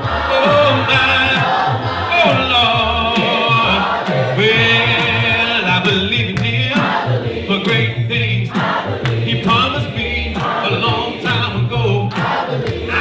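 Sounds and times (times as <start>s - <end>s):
low instrumental bass line: 0.0s - 13.0s
voices singing gospel: 0.0s - 13.0s.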